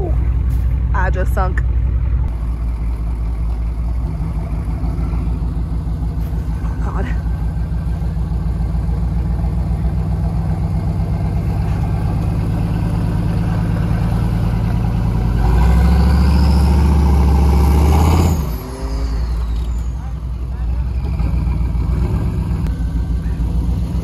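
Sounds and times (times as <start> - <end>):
truck engine revving under load: 1.8 - 24.0.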